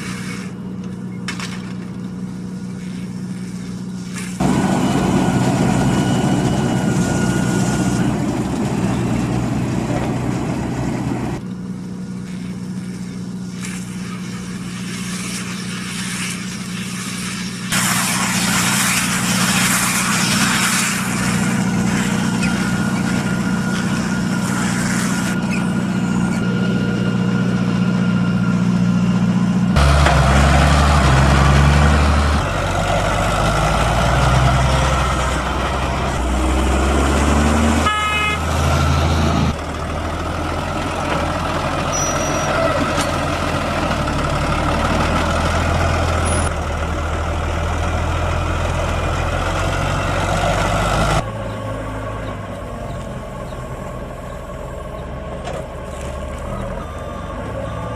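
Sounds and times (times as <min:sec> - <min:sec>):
tractor diesel engines running: 0:00.0 - 0:57.9
tractor driving by: 0:00.0 - 0:57.9.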